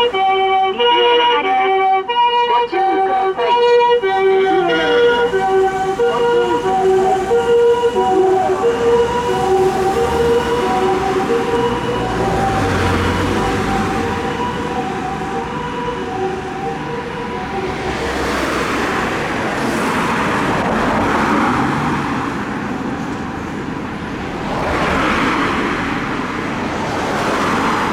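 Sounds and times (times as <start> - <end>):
passing vehicles: 0.0 - 27.9
two-tone ambulance siren: 0.0 - 27.9.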